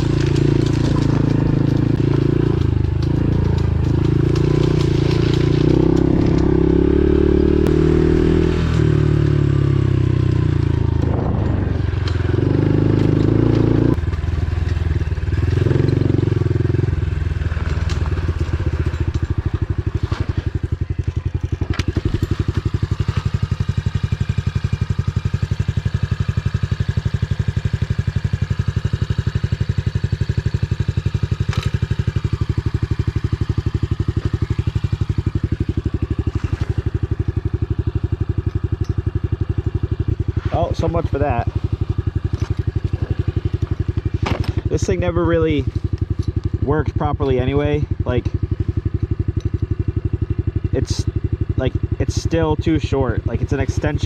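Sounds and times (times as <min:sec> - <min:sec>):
pit bike engine idling: 0:00.0 - 0:54.0.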